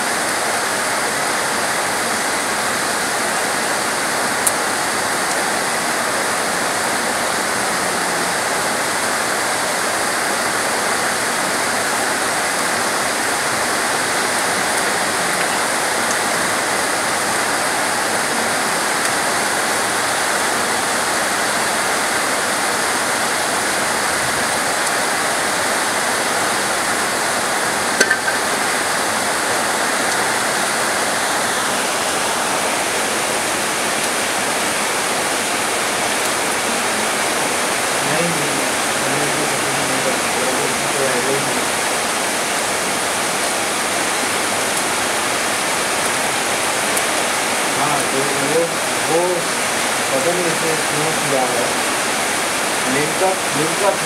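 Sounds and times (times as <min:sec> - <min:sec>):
heavy rain on palm trees: 0:00.0 - 0:54.0.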